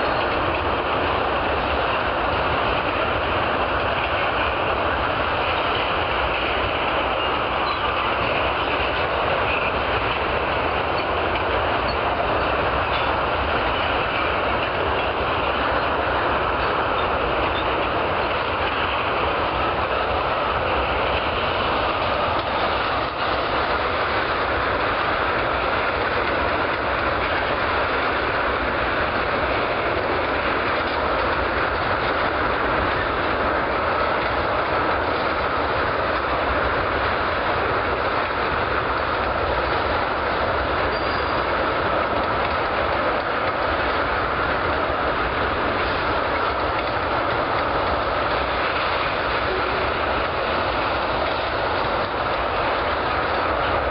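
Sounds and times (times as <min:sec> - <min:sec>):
train wheels on rail: 0:00.0 - 0:53.9.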